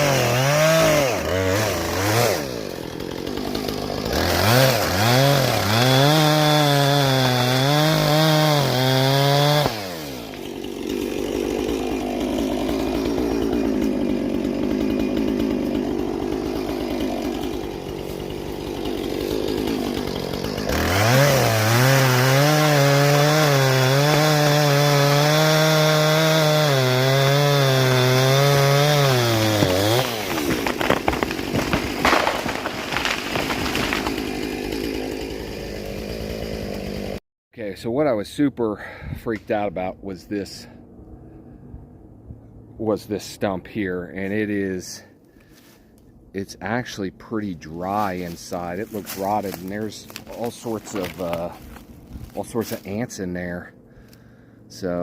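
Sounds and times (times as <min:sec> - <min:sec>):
chainsaw cutting wood: 0:00.0 - 0:37.2, 0:47.4 - 0:55.0.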